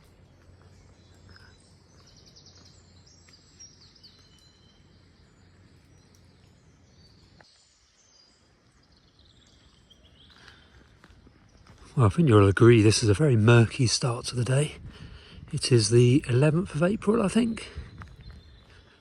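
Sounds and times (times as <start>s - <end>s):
faint birdsong trills and whistles: 0.0s - 19.0s.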